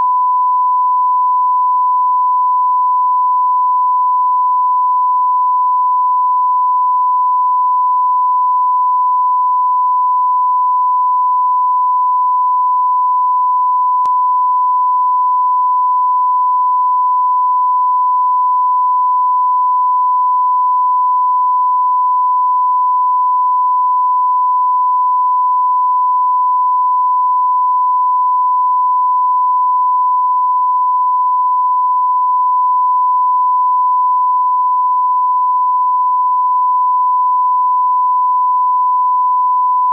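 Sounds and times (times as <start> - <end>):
steady test tone beep: 0.0 - 39.9.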